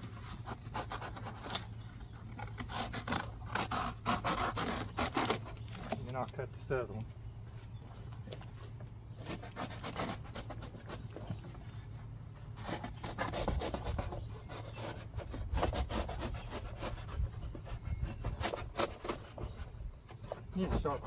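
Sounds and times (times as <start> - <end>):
knife cutting cardboard: 0.0 - 6.0, 9.1 - 21.0.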